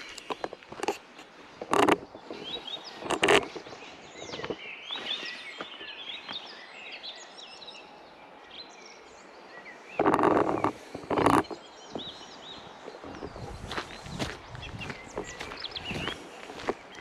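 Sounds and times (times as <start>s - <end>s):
footstep on trail: 0.0s - 6.6s, 10.0s - 17.0s
birds singing and chirping: 0.0s - 17.0s.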